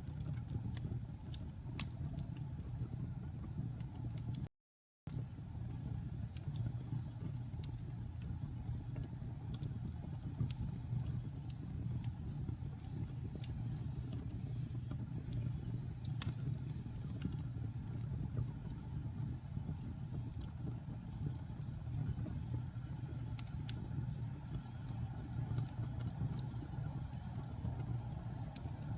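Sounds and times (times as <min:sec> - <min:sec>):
low rumble of burning: 0:00.0 - 0:04.5, 0:05.1 - 0:28.9
wood fire crackling and popping: 0:00.0 - 0:04.5, 0:05.1 - 0:28.9.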